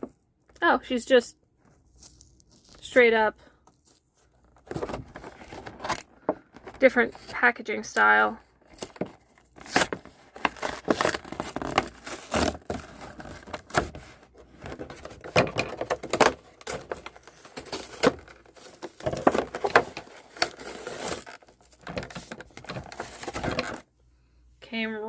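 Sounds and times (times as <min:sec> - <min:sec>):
packaging crinkling and tearing: 0:01.6 - 0:03.0, 0:03.6 - 0:07.3, 0:08.4 - 0:23.8.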